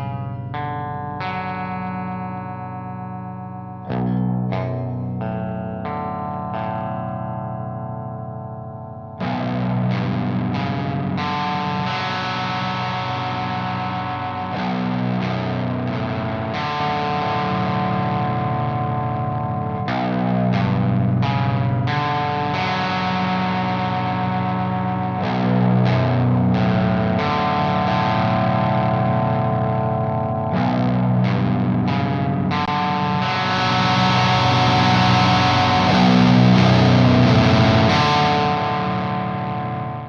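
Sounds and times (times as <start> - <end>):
overdriven electric guitar arpeggios: 0.0 - 40.0.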